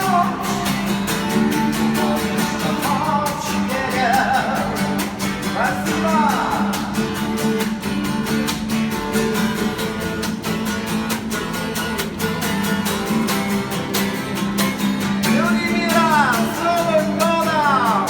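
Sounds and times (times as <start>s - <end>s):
strummed acoustic guitar music: 0.0s - 18.0s.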